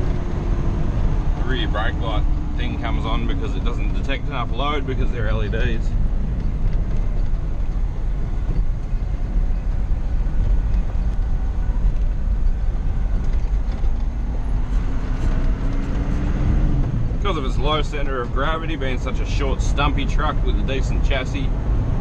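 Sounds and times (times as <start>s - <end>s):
truck engine rumble: 0.0s - 22.0s
tyre and road noise: 0.0s - 22.0s.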